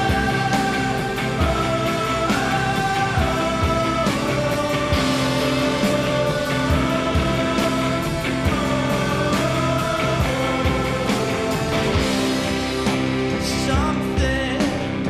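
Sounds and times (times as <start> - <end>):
held melody over steady beat: 0.0 - 14.6.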